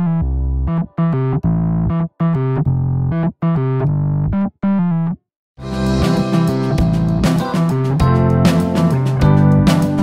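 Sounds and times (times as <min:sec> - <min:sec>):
keyboard tune over bass line: 0:00.0 - 0:10.0.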